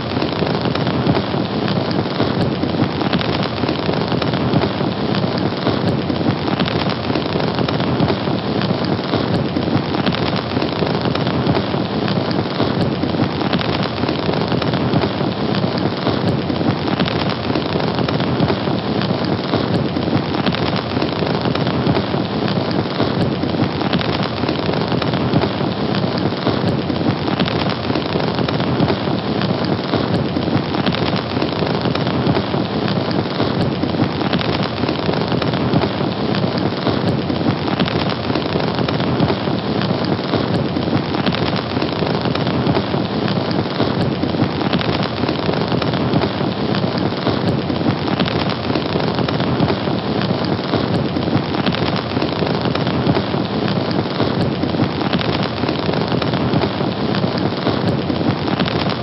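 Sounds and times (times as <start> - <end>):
fire crackling and hissing: 0.0 - 59.0.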